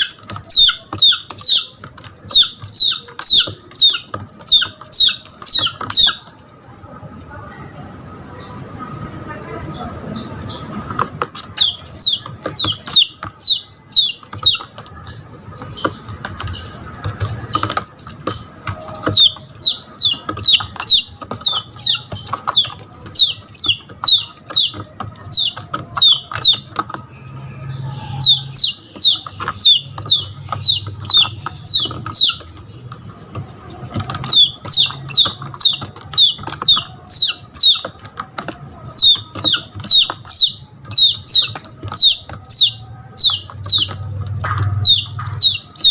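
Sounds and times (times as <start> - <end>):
chick peeping: 0.0 - 7.5, 8.3 - 45.9.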